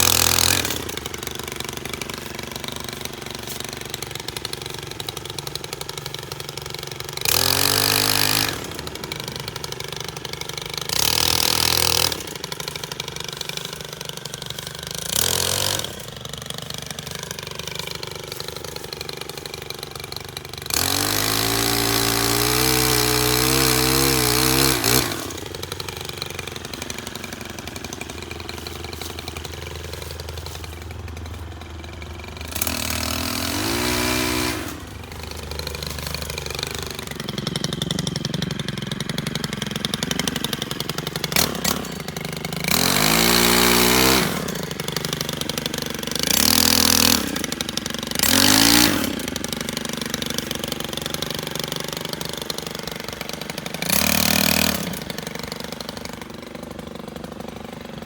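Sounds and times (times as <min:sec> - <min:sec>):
pole saw engine idling and revving: 0:00.0 - 0:58.0.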